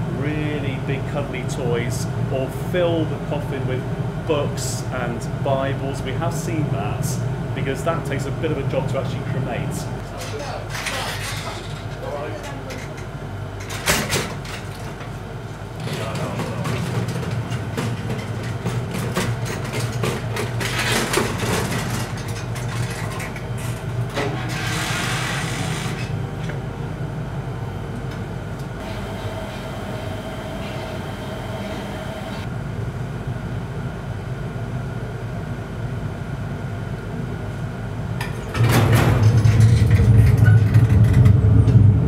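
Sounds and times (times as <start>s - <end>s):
machinery hum and rumble: 0.0s - 42.0s.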